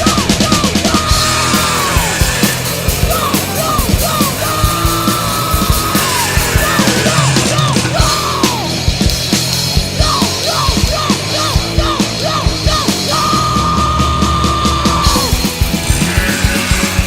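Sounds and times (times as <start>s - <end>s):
fast heavy rock music: 0.0s - 17.0s.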